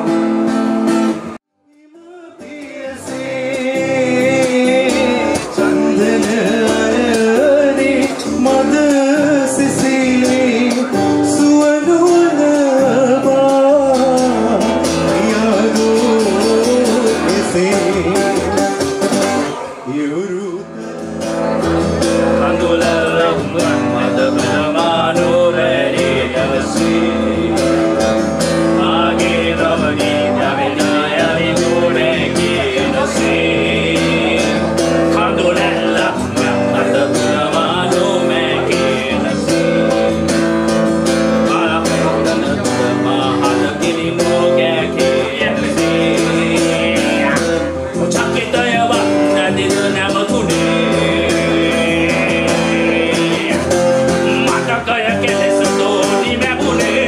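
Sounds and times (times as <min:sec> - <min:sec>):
acoustic guitar strumming: 0:00.0 - 0:57.0
man singing: 0:01.2 - 0:57.0.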